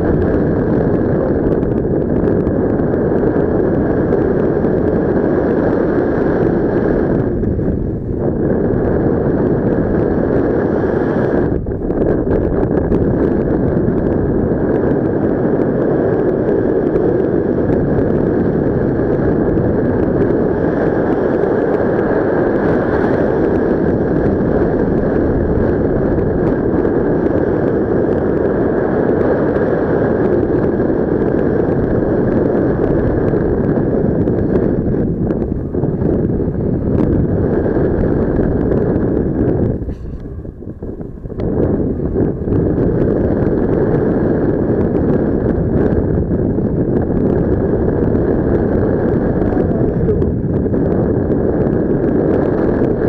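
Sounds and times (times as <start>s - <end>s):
wind noise on microphone: 0.0s - 53.0s.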